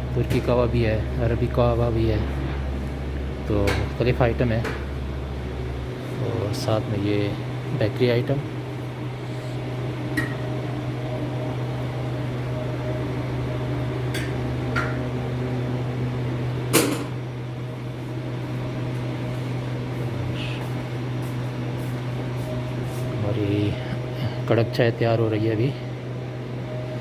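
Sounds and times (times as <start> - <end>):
electrical hum of appliances: 0.0 - 27.0.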